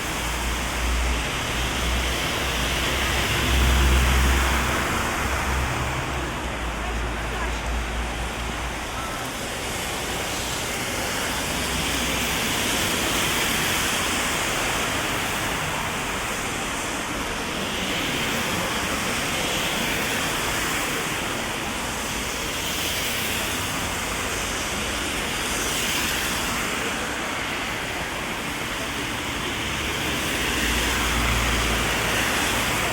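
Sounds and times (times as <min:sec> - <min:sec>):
heavy rain on umbrella: 0:00.0 - 0:32.9.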